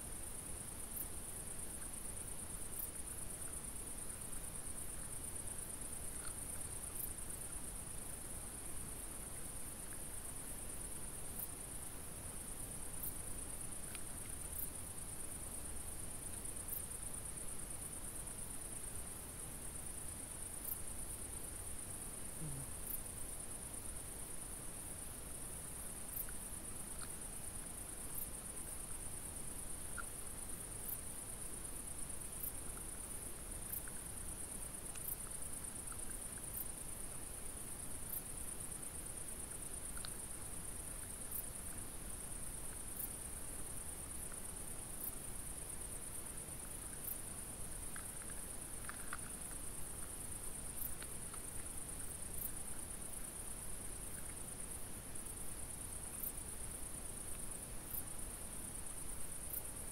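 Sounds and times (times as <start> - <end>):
crickets trilling: 0.2 - 59.9
faint ticks: 0.8 - 18.9, 19.9 - 56.4, 57.0 - 58.2.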